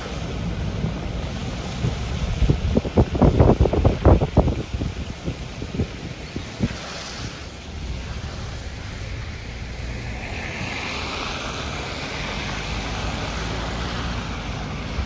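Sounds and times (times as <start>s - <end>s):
tyres hissing on wet road: 0.0s - 15.0s
wind rumble on microphone: 0.0s - 15.0s.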